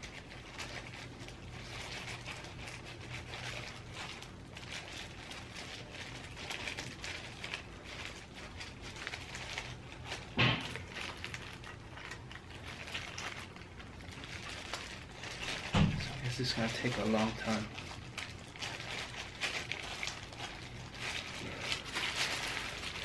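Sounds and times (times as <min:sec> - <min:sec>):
low steady hum: 0:00.0 - 0:23.0
sticky clicks and rustles: 0:00.0 - 0:23.0.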